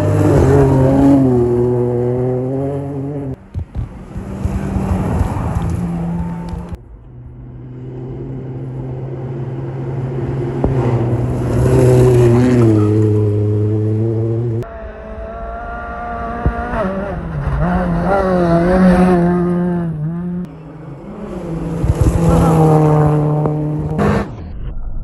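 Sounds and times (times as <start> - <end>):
rally car engines revving: 0.0 - 24.4.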